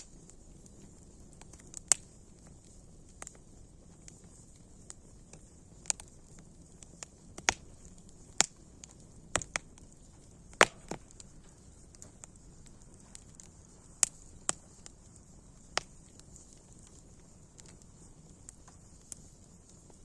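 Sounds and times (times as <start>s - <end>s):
faint steady hiss: 0.0s - 20.0s
wood fire crackling: 0.0s - 20.0s.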